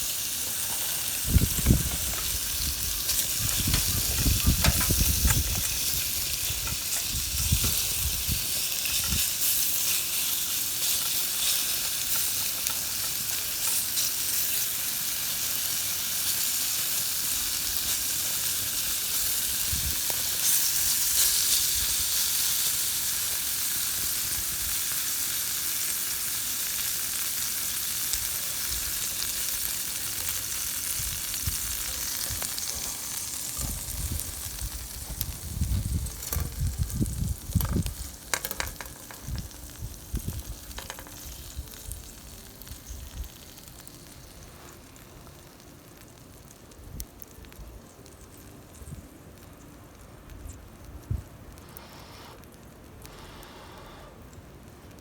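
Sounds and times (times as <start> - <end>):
food sizzling in a pan: 0.0 - 46.2.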